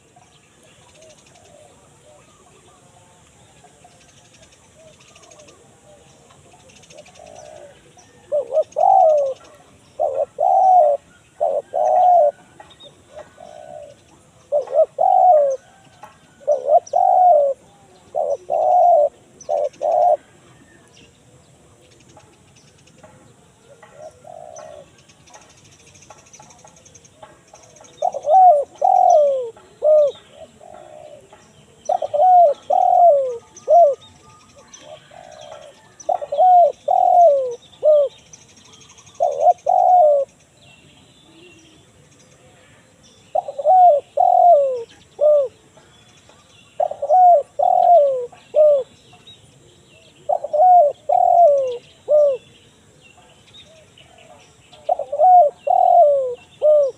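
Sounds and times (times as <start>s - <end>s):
dove cooing: 0.0s - 20.9s, 23.4s - 25.4s, 27.8s - 38.2s, 38.9s - 40.4s, 41.2s - 45.8s, 46.4s - 49.1s, 50.0s - 52.6s, 53.2s - 56.9s
small birds chirping faintly: 0.0s - 56.9s.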